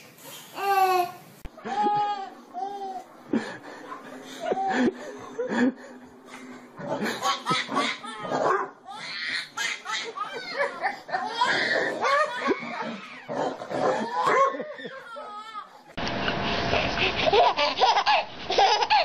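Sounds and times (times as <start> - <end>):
baby laughing: 0.6 - 6.0, 6.9 - 15.8, 17.1 - 19.0.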